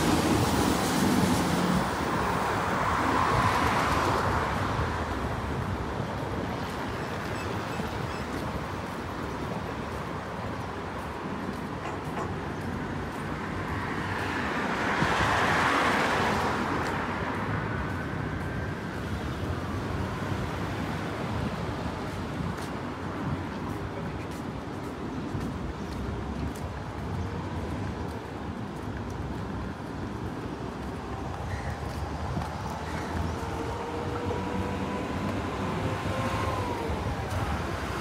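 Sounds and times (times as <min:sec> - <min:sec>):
street traffic noise: 0:00.0 - 0:38.0.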